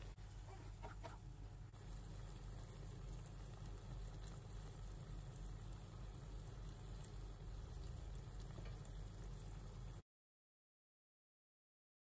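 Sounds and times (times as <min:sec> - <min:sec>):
gravy bubbling and sizzling: 0:00.0 - 0:10.0
low steady hum: 0:00.0 - 0:10.0.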